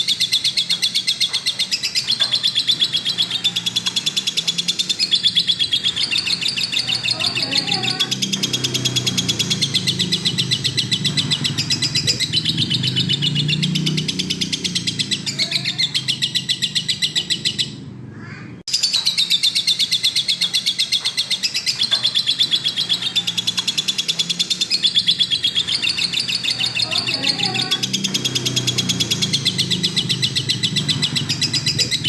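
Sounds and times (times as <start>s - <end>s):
bird chattering high chirps: 0.0s - 32.0s.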